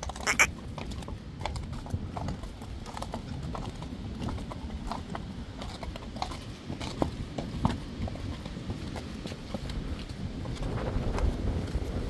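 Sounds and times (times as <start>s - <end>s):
hooves clip-clopping on concrete: 0.0s - 12.0s.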